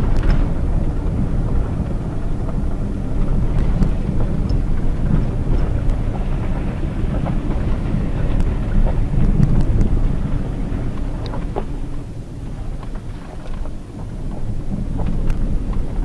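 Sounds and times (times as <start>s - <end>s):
car cabin rumble on dirt road: 0.0s - 16.0s.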